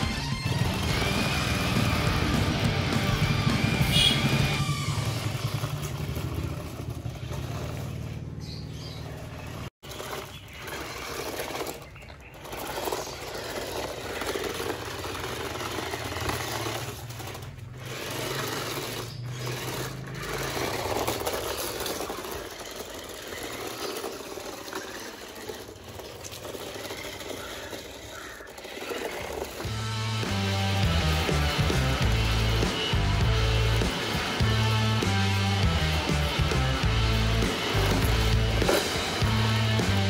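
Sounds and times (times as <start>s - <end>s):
electric toy car motors whirring: 0.0s - 40.0s
wheels rolling over dirt and concrete: 0.0s - 40.0s.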